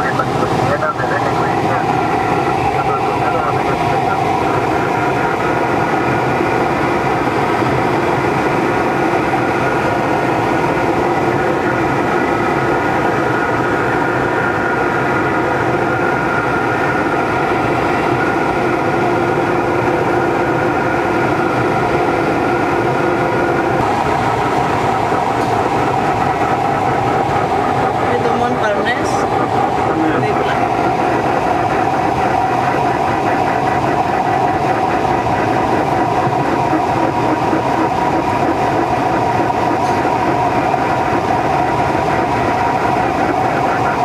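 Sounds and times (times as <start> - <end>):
rushing airflow: 0.0 - 44.0
tow plane engine drone: 0.0 - 44.0.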